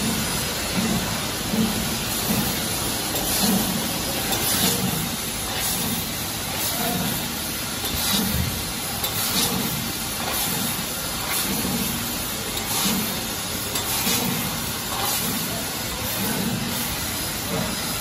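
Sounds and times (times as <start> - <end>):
laser cutter hiss: 0.0 - 18.0.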